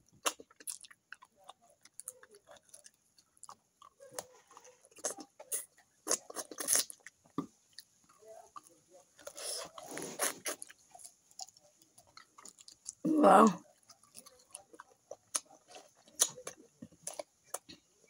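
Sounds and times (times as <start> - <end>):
chewing and lip-smacking: 0.0 - 17.9.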